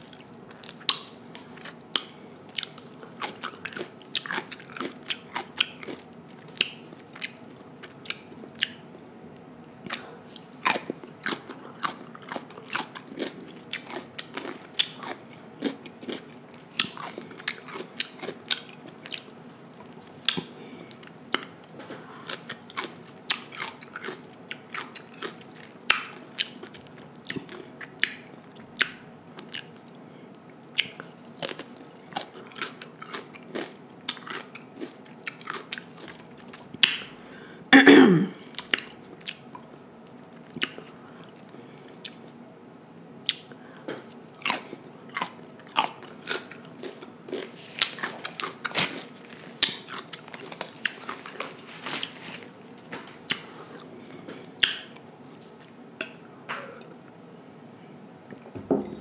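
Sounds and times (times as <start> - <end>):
wet chewing and crunching: 0.0 - 9.1, 9.8 - 30.0, 30.8 - 37.2, 38.5 - 42.3, 43.3 - 55.8.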